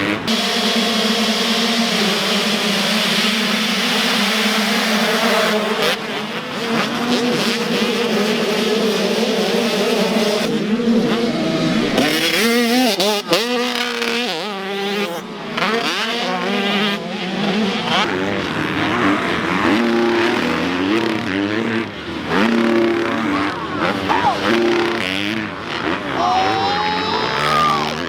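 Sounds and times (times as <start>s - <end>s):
dirt bike engines revving hard: 0.0s - 28.0s.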